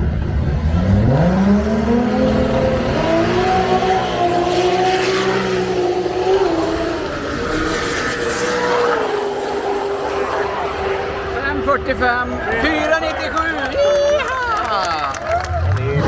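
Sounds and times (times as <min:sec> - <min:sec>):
racing car engine revving: 0:00.0 - 0:12.5, 0:15.2 - 0:16.0.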